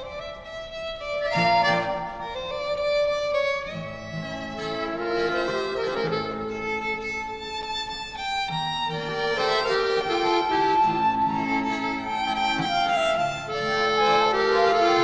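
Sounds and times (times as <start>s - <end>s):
low held accompanying notes: 0.0s - 15.0s
violin melody with vibrato: 0.0s - 15.0s.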